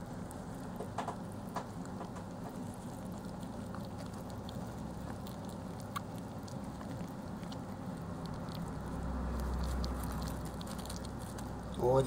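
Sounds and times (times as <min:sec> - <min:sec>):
hamsters chewing clicks: 0:00.0 - 0:12.0
steady low hum: 0:00.0 - 0:12.0.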